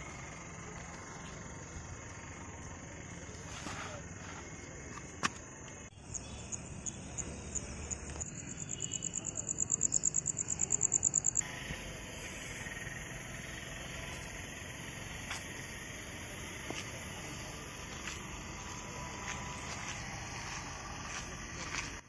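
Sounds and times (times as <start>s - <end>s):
cricket chirping: 0.0s - 22.0s
steady outdoor hiss: 0.0s - 22.0s.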